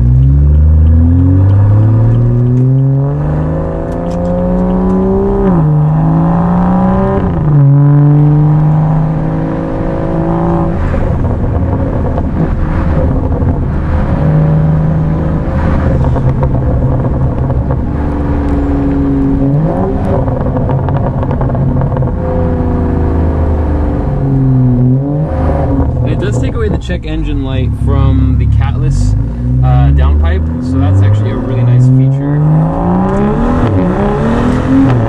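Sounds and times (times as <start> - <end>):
car engine shifting gears: 0.0 - 35.0.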